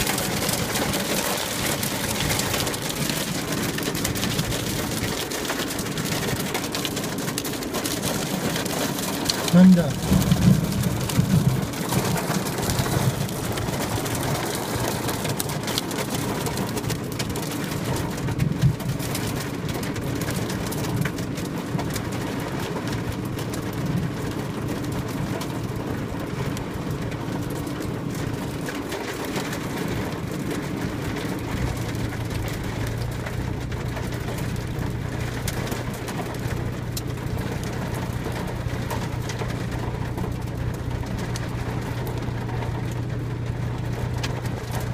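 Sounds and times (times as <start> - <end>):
hail and rain on car: 0.0 - 44.9.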